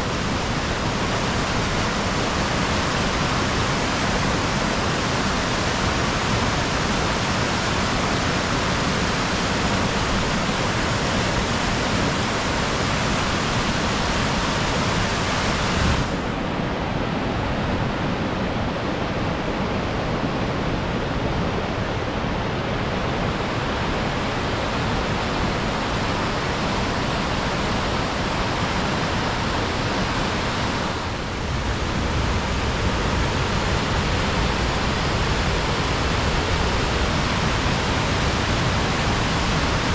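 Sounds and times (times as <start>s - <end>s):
river rapids rushing: 0.0s - 39.9s.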